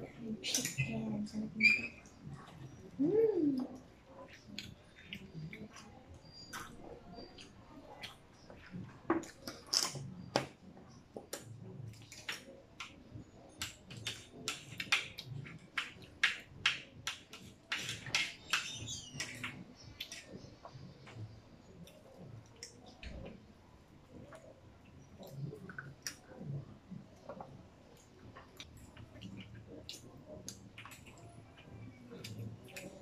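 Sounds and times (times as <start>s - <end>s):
people chewing: 2.0s - 33.0s.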